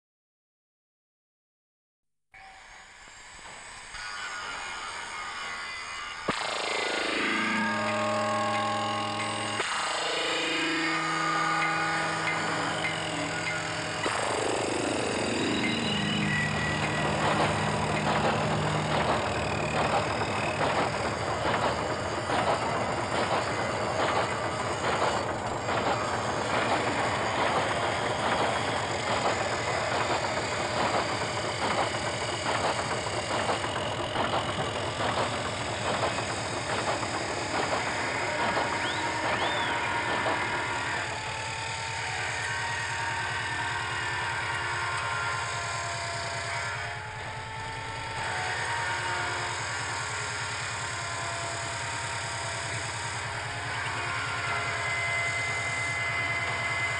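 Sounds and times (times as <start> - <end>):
machinery hum with whining tones: 2.4 - 56.9
workshop machinery noise: 6.3 - 56.9.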